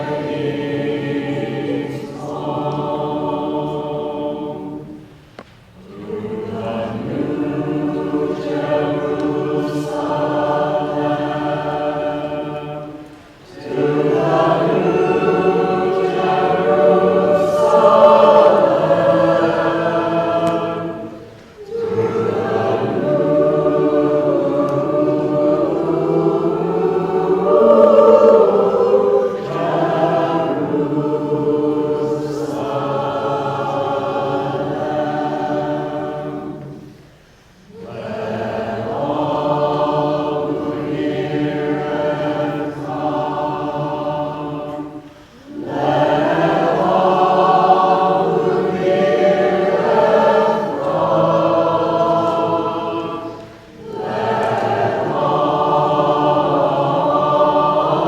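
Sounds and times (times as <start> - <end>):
small choir singing: 0.0 - 58.0.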